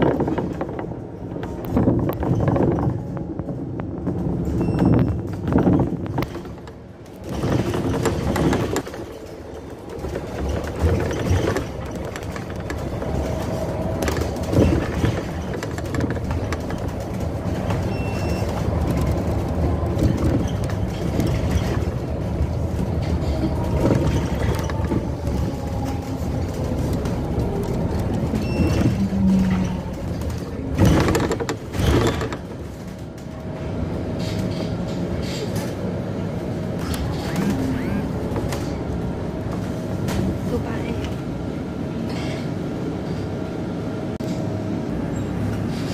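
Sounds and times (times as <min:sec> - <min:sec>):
bus engine and road noise: 0:00.0 - 0:45.9.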